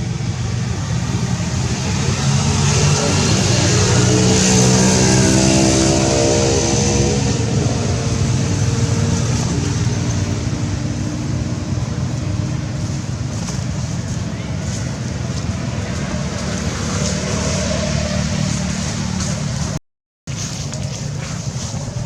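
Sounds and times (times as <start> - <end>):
traffic rumble: 0.0 - 22.0
vehicle engine running: 0.0 - 22.0.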